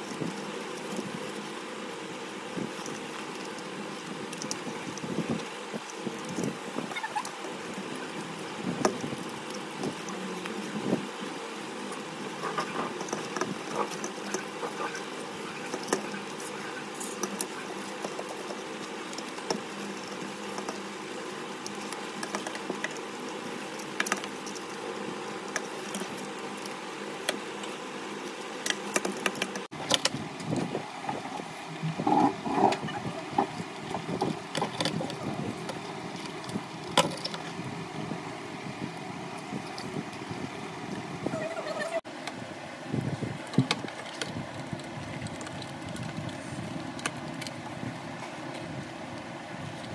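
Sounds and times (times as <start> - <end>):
steady background hum: 0.0 - 49.9.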